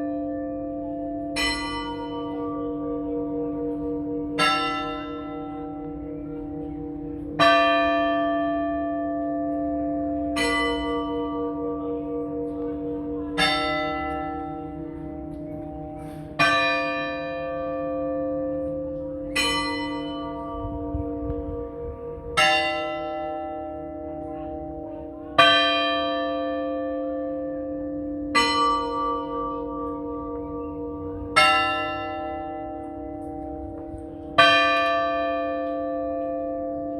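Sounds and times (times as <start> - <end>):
church bell tolling: 0.0 - 36.9.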